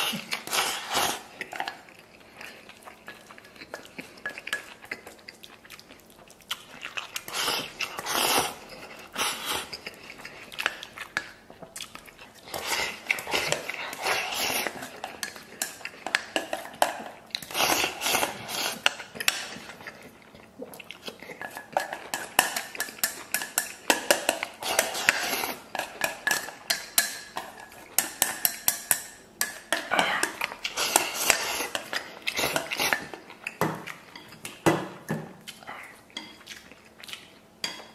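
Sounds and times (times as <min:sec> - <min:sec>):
person chewing: 0:00.0 - 0:37.9.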